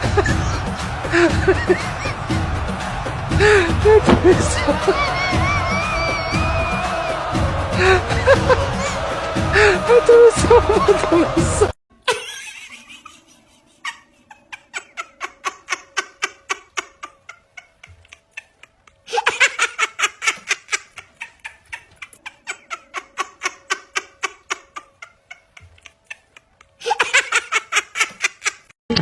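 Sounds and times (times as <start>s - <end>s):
rhythmic laughter: 0.0s - 28.7s.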